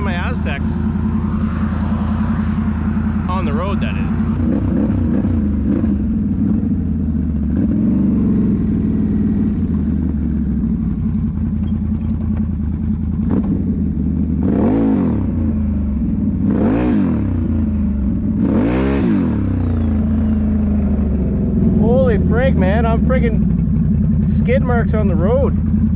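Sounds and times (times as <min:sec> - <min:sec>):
atv engine revving: 0:00.0 - 0:25.9.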